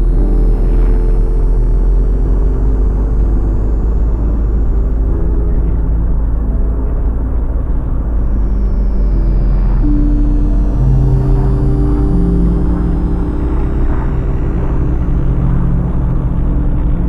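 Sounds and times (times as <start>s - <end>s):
car driving on highway: 0.0s - 17.0s.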